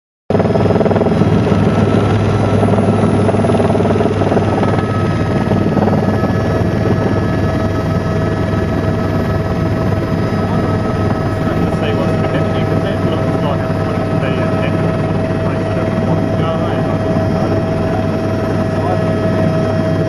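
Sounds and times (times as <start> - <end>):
helicopter engine whine: 0.3 - 20.0
helicopter rotor drone: 0.3 - 20.0.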